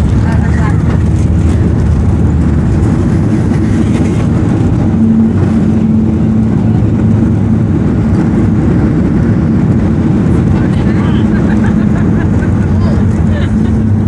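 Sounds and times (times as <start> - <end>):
airplane cabin roar: 0.0 - 14.0
steady hum: 0.0 - 14.0.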